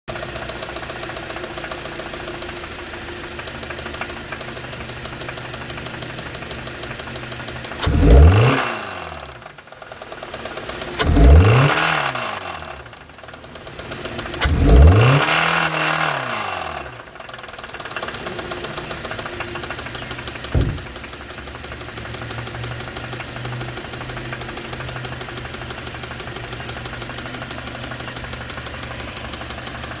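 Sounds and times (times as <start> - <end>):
car engine knocking and revving: 0.1 - 30.0.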